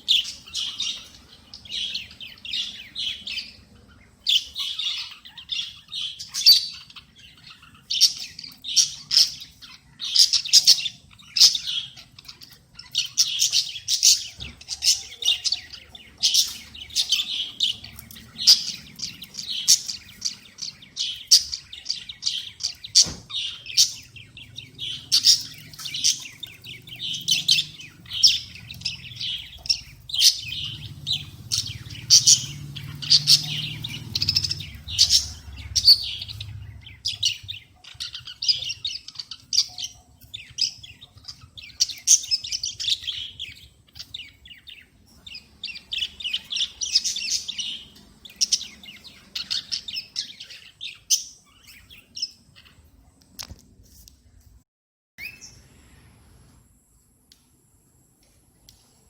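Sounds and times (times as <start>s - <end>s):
cockatiel chirping: 0.0s - 52.8s.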